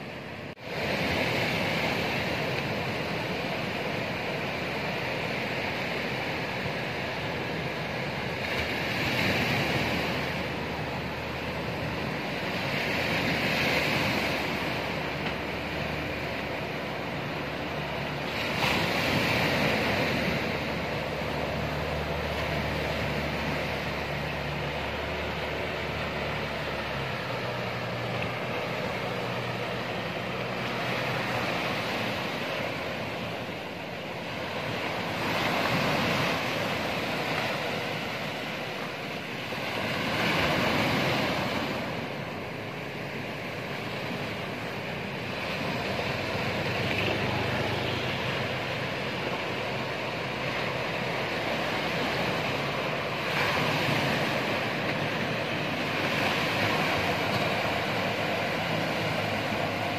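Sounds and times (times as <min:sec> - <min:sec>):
boat engine hum: 0:00.0 - 0:59.9
waves breaking on beach: 0:00.0 - 0:59.9.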